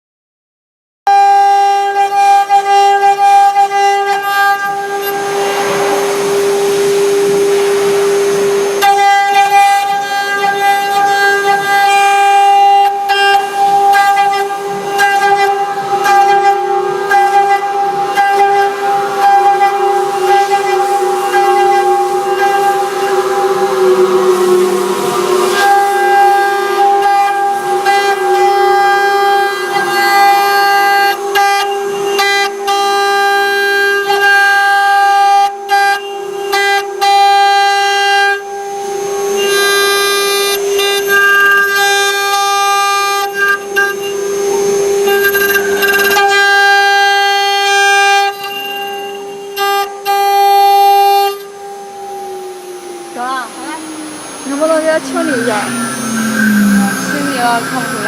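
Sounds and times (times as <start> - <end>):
router spindle whining: 1.9 - 58.0.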